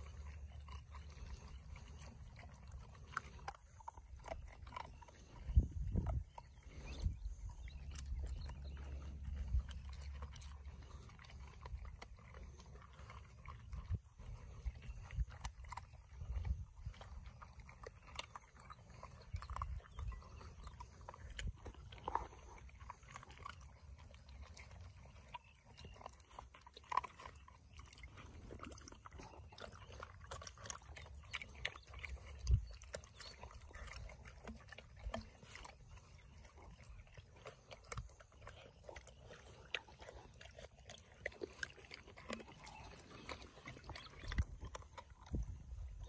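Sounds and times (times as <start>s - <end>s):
puppies crunching kibble: 0.0s - 46.0s.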